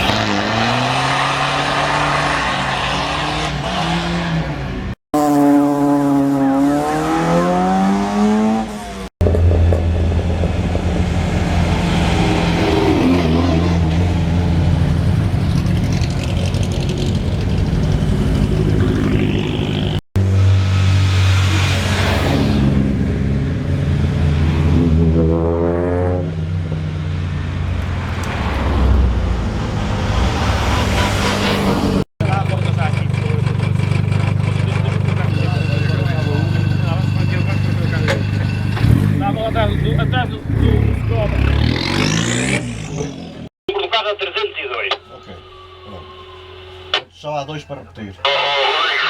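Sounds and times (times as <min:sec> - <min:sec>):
race car engine revving: 0:00.0 - 0:43.5.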